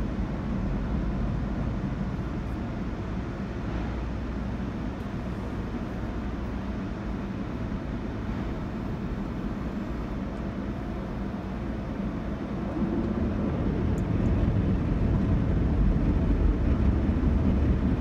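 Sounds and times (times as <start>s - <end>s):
car wash machinery rumbling: 0.0s - 18.0s.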